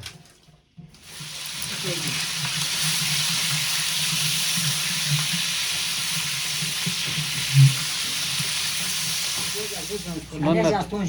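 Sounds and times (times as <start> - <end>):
hot oil sizzling in a pot: 1.0 - 10.5.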